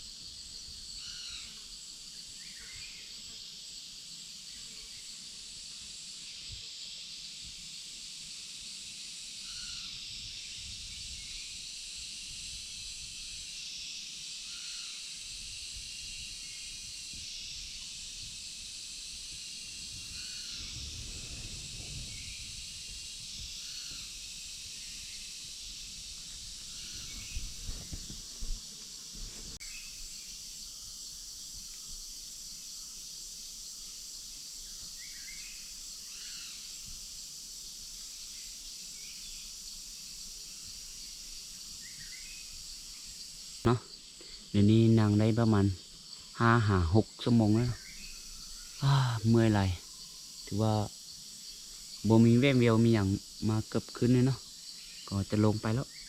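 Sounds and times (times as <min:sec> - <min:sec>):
insect chorus buzzing: 0:00.0 - 0:56.0.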